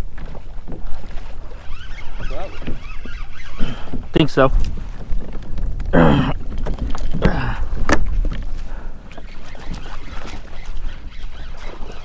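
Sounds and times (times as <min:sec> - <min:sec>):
water and wind rumble: 0:00.0 - 0:12.0.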